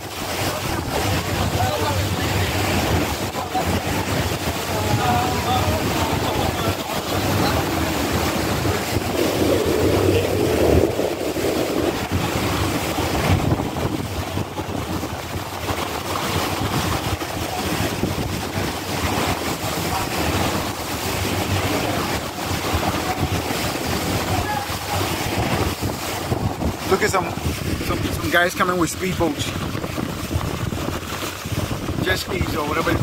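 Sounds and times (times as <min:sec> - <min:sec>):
boat engine drone: 0:00.0 - 0:33.0
water rushing: 0:00.0 - 0:33.0
wind buffeting microphone: 0:00.0 - 0:33.0.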